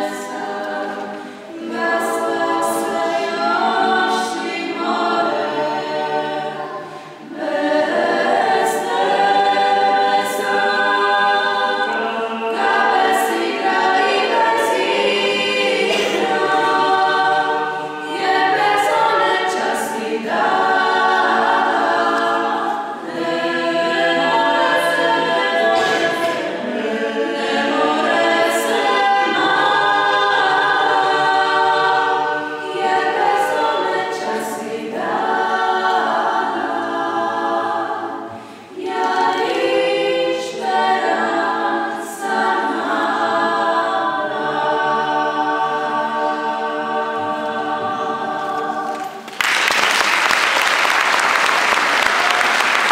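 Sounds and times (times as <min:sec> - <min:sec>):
vocal ensemble singing in harmony: 0:00.0 - 0:52.9.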